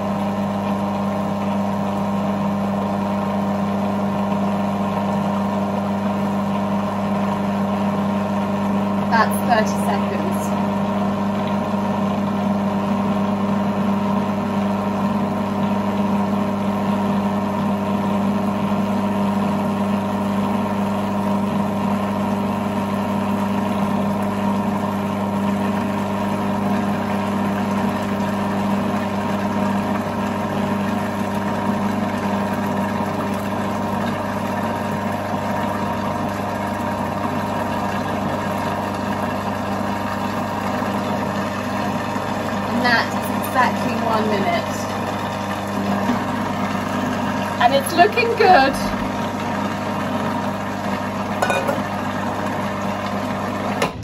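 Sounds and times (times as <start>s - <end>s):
food processor running: 0.0s - 54.0s.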